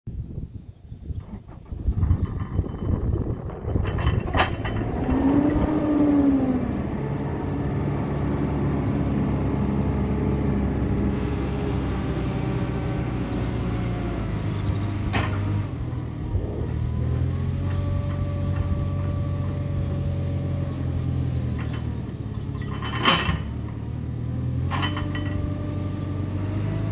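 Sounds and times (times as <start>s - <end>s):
diesel engine running under load: 1.1s - 26.9s.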